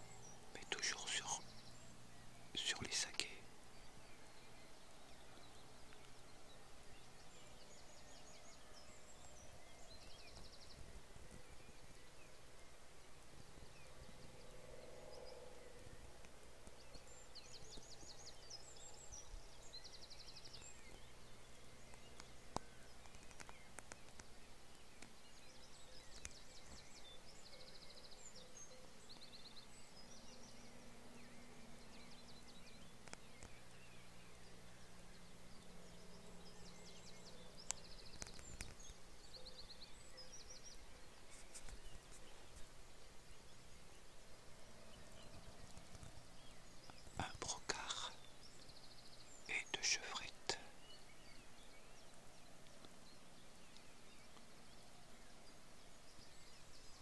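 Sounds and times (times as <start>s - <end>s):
faint low hum: 0.0s - 57.0s
songbirds trilling: 0.0s - 57.0s.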